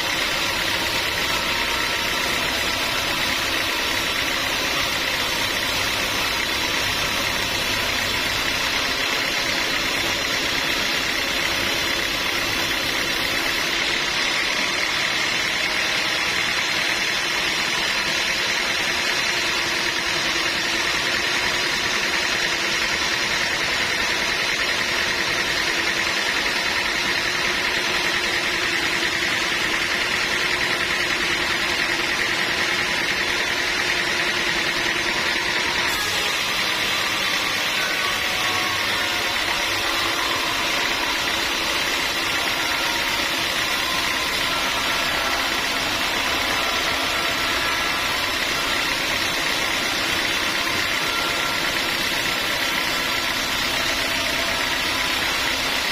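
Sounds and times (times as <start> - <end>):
high mechanical whine: 0.0 - 55.9
sawmill machinery drone: 0.0 - 55.9.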